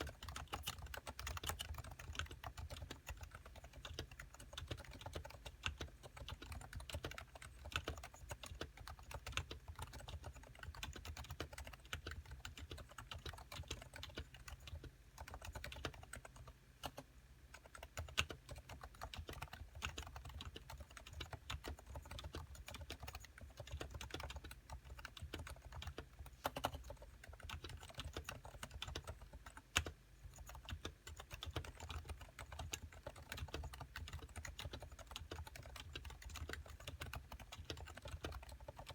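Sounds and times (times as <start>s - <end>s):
fast typing on quiet keyboard: 0.0s - 38.9s.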